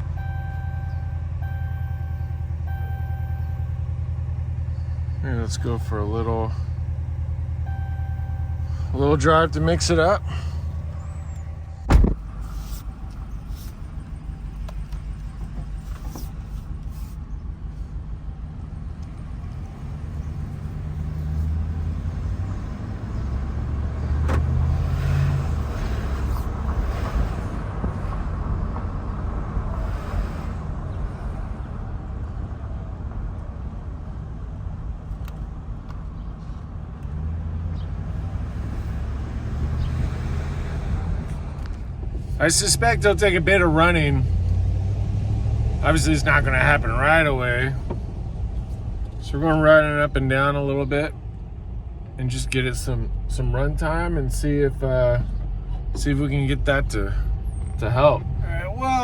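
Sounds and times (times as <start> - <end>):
misfiring car engine: 0.0 - 59.0.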